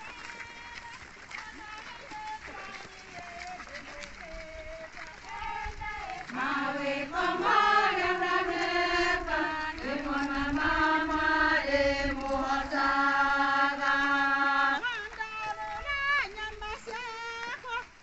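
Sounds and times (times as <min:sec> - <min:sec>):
women singing a chant: 0:00.0 - 0:17.6.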